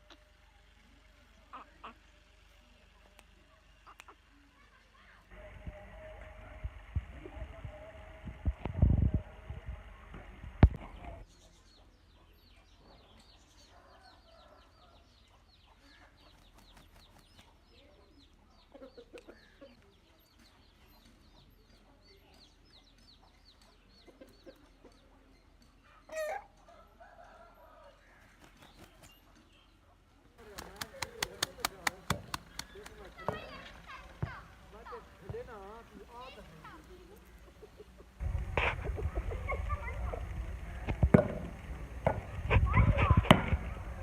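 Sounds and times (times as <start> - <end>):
chickens clucking: 0.0 - 5.2, 10.1 - 29.5, 30.4 - 44.0.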